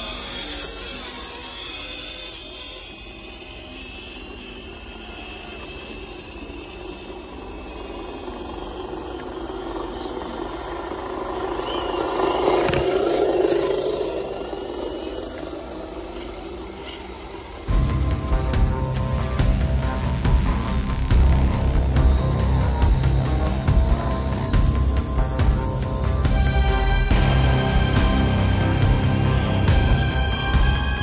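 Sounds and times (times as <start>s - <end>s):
rc truck motors whining: 0.0s - 31.0s.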